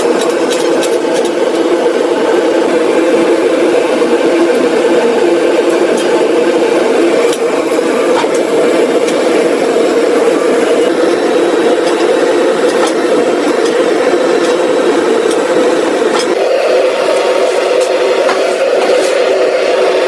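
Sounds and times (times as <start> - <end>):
machine drone: 0.0 - 20.0.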